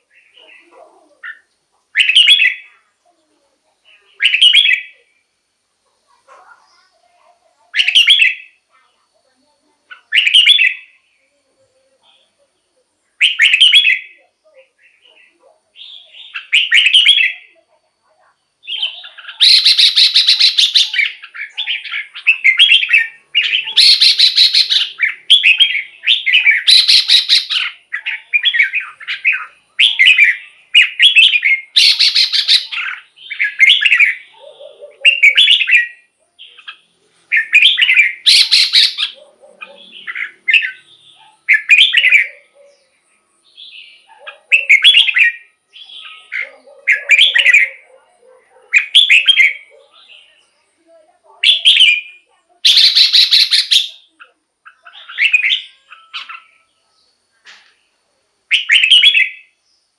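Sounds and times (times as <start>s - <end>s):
bird singing warbled phrases: 0.0s - 59.9s.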